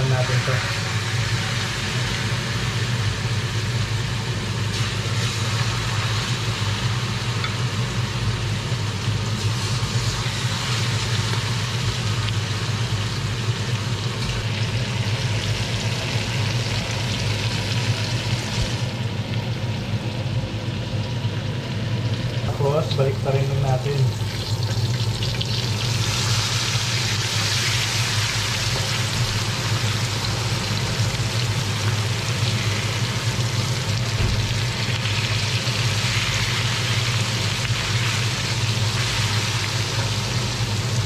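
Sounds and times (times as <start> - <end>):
fish sizzling in a pan: 0.0 - 19.8, 21.0 - 41.0.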